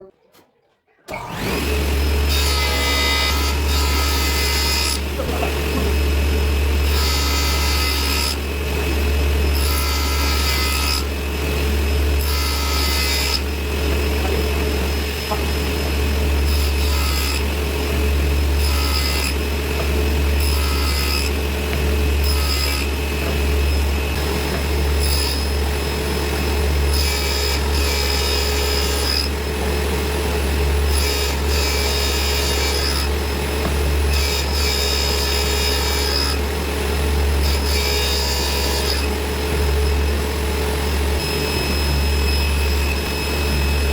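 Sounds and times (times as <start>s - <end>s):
saw whining through wood: 1.1s - 43.9s
table saw motor hum: 1.1s - 43.9s.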